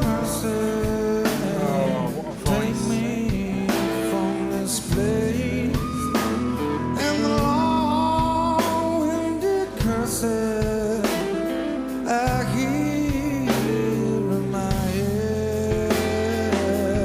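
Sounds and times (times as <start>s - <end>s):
man singing: 0.0s - 17.0s
rock band playing ballad: 0.0s - 17.0s.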